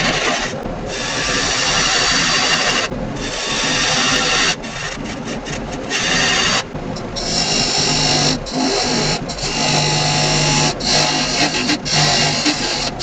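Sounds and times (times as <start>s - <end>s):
lathe tool cutting wood: 0.0s - 13.0s
wood lathe hum: 0.9s - 13.0s.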